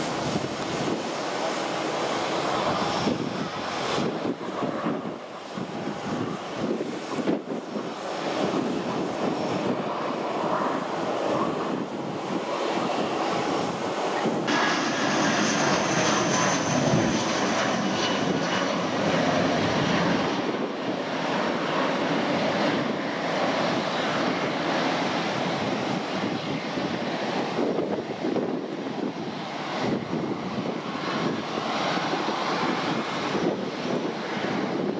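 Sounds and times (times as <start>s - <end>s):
jet engines rushing: 0.0s - 34.9s.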